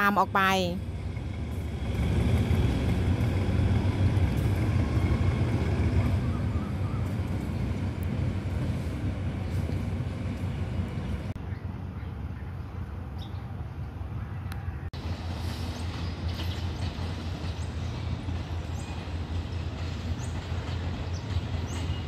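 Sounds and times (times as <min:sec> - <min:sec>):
locomotive engine rumbling: 0:00.0 - 0:22.0.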